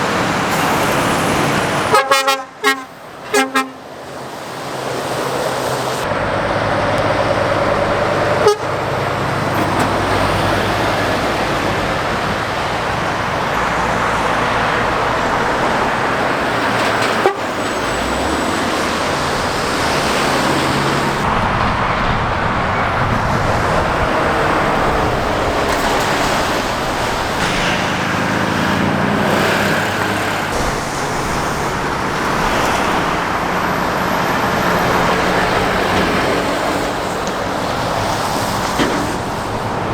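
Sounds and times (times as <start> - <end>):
traffic passing on busy road: 0.0 - 39.9.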